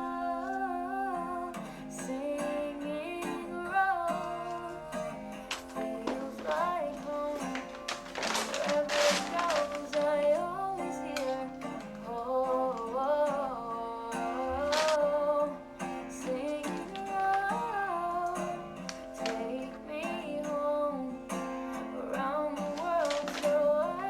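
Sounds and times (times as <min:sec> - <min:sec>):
woman singing with acoustic guitar: 0:00.0 - 0:24.0.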